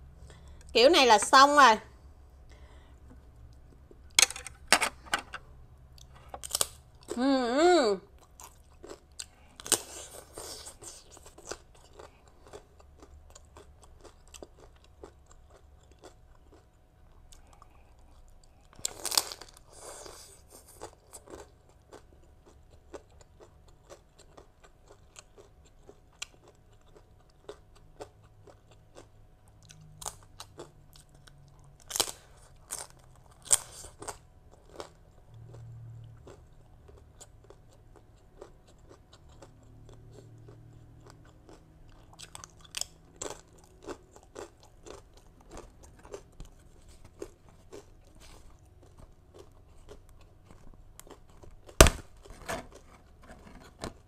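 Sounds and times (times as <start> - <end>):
crunching a crisp cracker: 6.0 - 7.2, 8.2 - 53.6.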